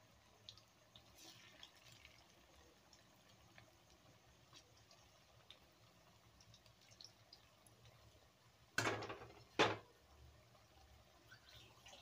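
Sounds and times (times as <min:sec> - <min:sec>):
oil bubbling and crackling: 0:00.0 - 0:12.0.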